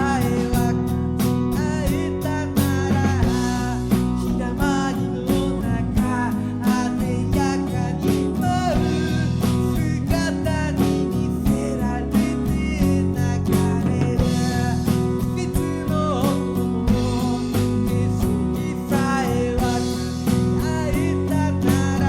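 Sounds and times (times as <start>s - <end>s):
band song with guitar: 0.0s - 22.0s
steady drum beat: 0.0s - 22.0s.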